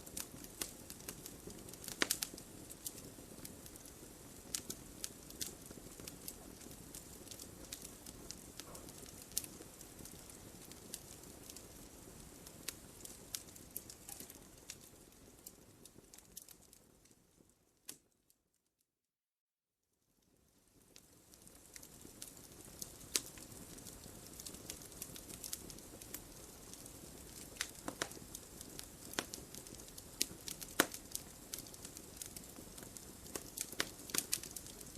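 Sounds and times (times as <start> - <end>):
fire crackling and popping: 0.0 - 18.2, 20.2 - 34.9
soft fire hiss: 0.0 - 18.2, 20.2 - 34.9.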